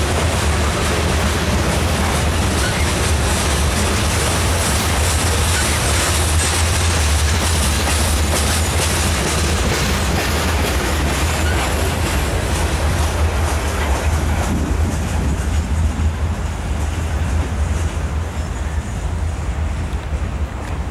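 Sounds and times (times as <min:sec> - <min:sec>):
train wheels rattling on track: 0:00.0 - 0:20.9.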